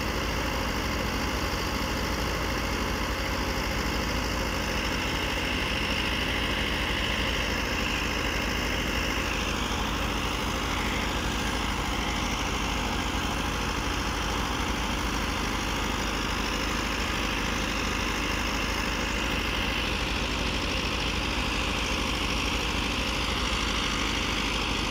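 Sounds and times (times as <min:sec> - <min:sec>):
tractor diesel engine droning: 0:00.0 - 0:24.9
threshing machine whirring: 0:00.1 - 0:24.9.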